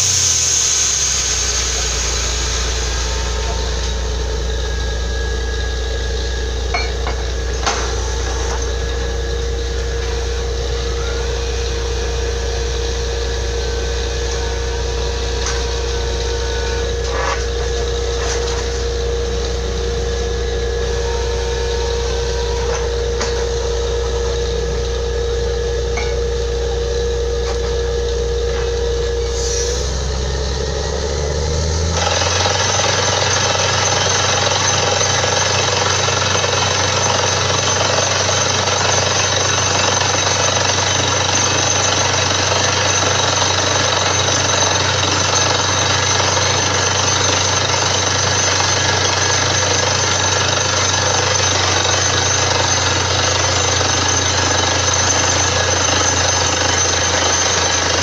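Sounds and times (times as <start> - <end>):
drilling rig engine hum: 0.0 - 58.0
mid-pitched whine: 0.0 - 58.0
drill hammering rattle: 1.2 - 26.5, 30.1 - 58.0.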